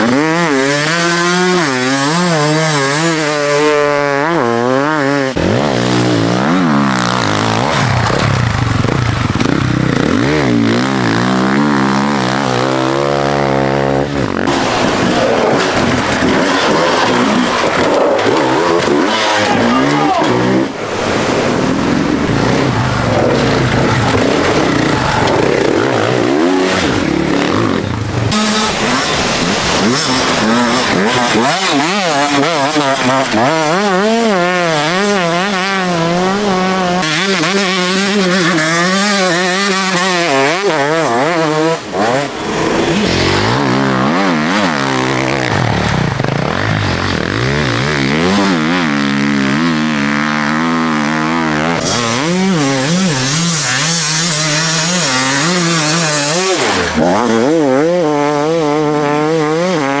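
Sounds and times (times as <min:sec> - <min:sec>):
dirt bike engines revving: 0:00.0 - 1:00.0.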